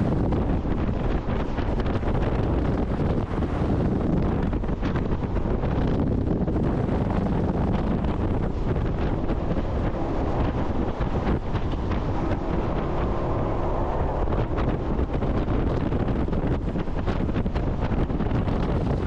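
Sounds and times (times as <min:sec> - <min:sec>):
boat engine noise: 0:00.0 - 0:19.0
wind buffeting microphone: 0:00.0 - 0:19.0.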